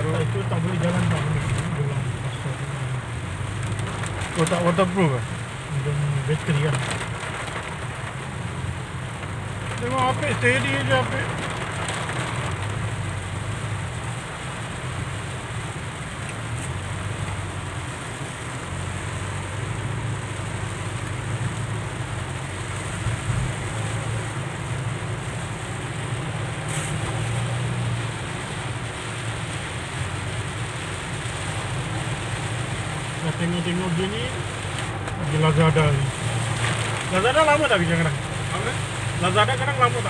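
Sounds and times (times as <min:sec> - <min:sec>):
low engine and road drone: 0:00.0 - 0:40.0
rain hissing on car roof: 0:00.0 - 0:40.0
tyres on wet road: 0:00.0 - 0:40.0.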